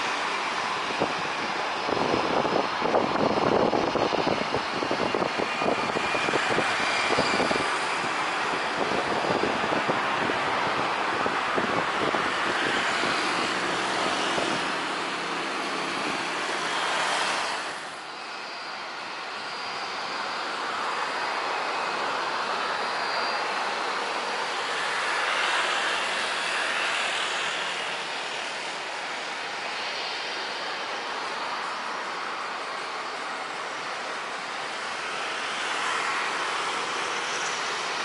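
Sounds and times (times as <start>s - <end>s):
airliner taxiing engine rumble: 0.0s - 38.0s
jet engine roar: 0.0s - 38.0s
thin high engine whine: 0.0s - 38.0s.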